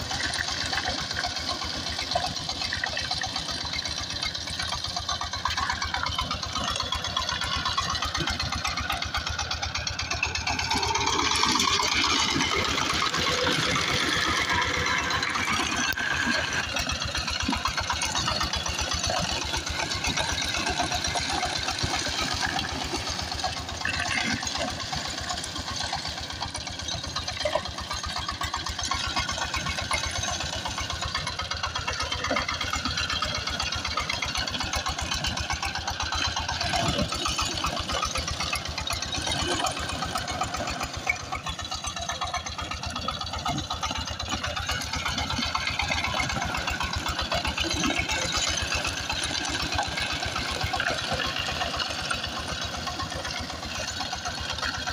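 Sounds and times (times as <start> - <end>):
tiller diesel engine knocking: 0.0 - 54.9.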